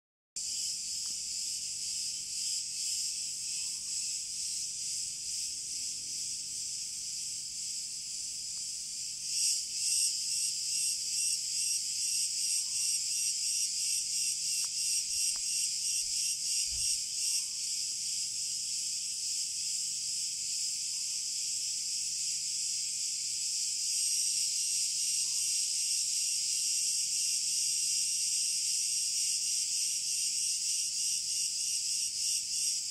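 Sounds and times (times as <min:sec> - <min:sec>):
cicadas buzzing: 0:00.4 - 0:32.9.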